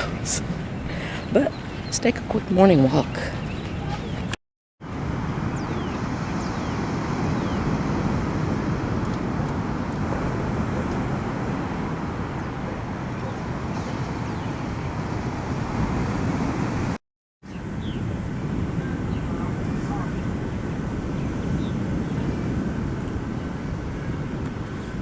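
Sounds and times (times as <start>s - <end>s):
ocean surf rushing: 0.0s - 3.0s, 4.8s - 25.0s
wind on microphone: 0.0s - 25.0s.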